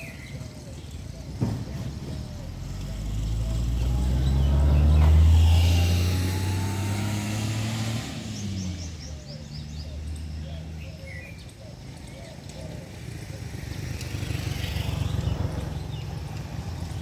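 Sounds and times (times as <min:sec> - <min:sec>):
passing motor vehicle engine hum: 0:00.0 - 0:17.0.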